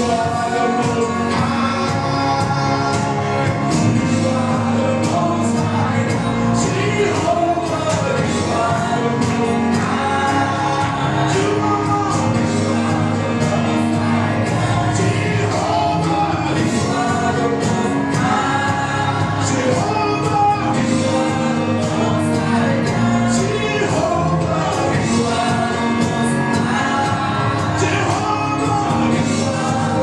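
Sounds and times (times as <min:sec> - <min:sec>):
choir singing: 0:00.0 - 0:30.0
drums beating: 0:00.0 - 0:30.0
gospel band playing: 0:00.0 - 0:30.0.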